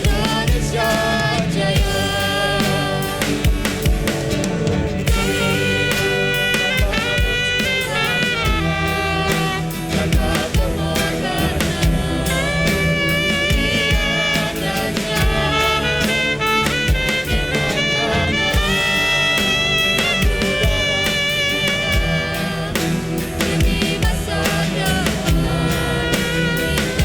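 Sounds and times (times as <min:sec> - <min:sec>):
choir singing: 0:00.0 - 0:27.0
drum kit beat: 0:00.0 - 0:27.0.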